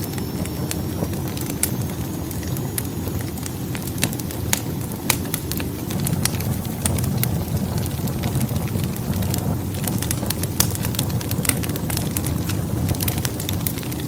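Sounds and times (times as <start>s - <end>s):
low rumble of flames: 0.0s - 14.0s
logs popping and snapping: 2.4s - 14.0s.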